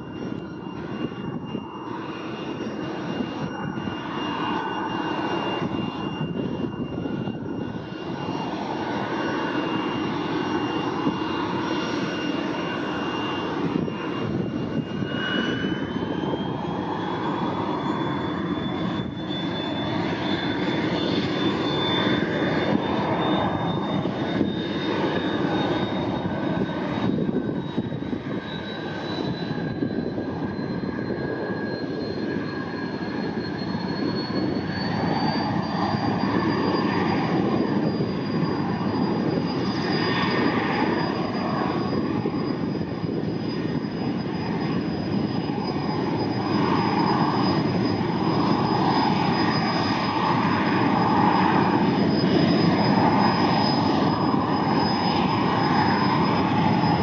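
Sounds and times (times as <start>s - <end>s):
helicopter engine and rotor: 0.0s - 57.0s
turbine whine: 0.0s - 57.0s.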